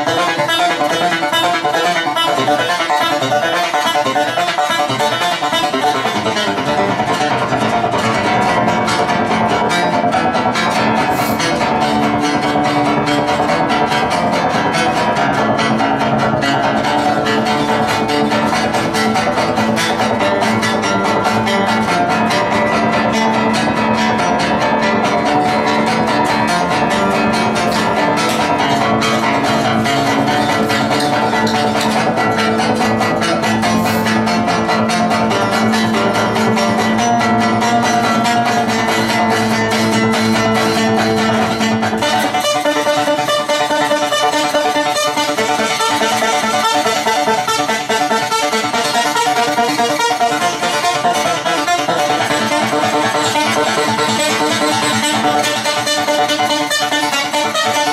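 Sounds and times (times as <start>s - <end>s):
acoustic guitar picked notes: 0.0s - 57.9s.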